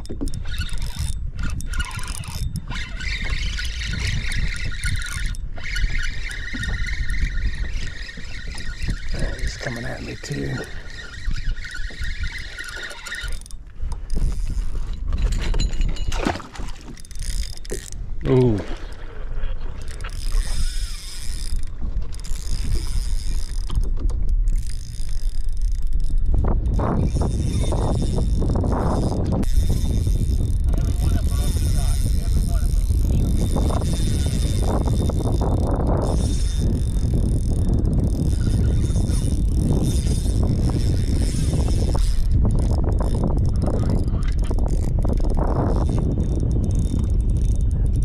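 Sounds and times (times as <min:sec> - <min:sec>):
fishing reel whirring: 0:00.0 - 0:48.0
wind buffeting microphone: 0:00.0 - 0:48.0.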